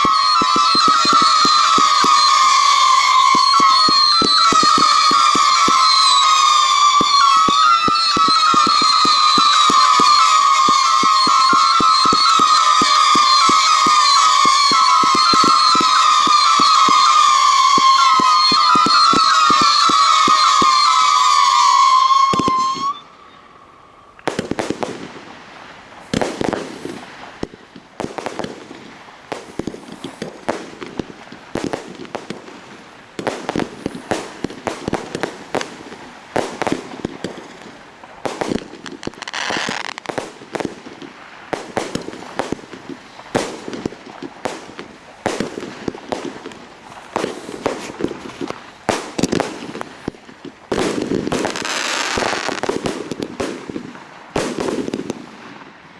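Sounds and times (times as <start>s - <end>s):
firework bangs and cracks: 0.0s - 23.0s, 24.1s - 55.9s
firework whistle: 0.0s - 55.9s
hissing crackle: 0.0s - 55.9s.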